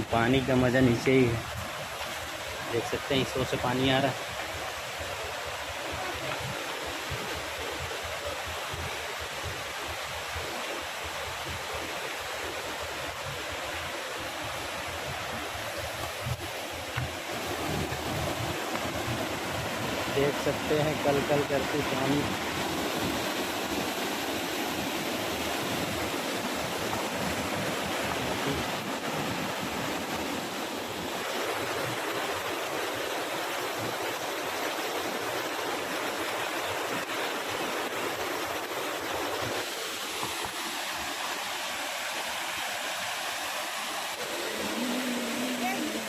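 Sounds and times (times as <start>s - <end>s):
stream water babbling: 0.0s - 46.0s.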